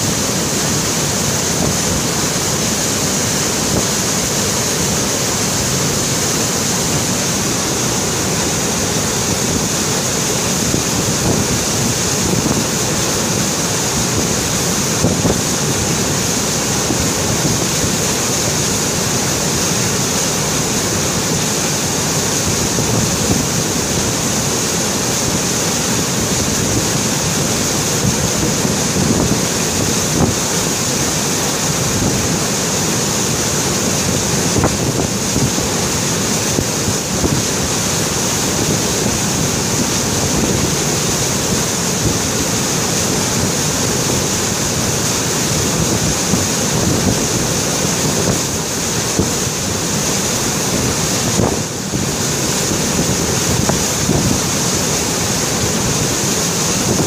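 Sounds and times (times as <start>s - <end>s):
meltwater rushing: 0.0s - 57.0s.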